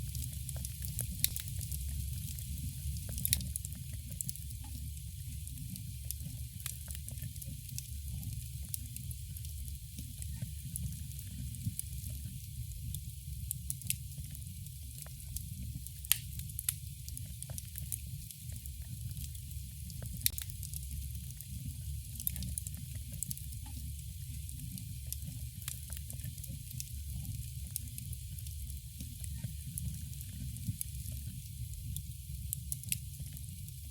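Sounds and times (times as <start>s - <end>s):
low rumble and hiss of fire: 0.0s - 33.9s.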